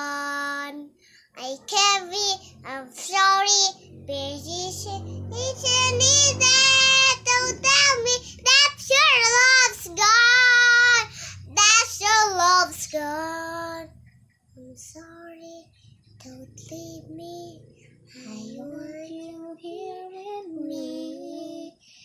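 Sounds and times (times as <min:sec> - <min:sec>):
girl singing pop song: 0:00.0 - 0:14.0, 0:14.6 - 0:17.6, 0:18.2 - 0:22.0.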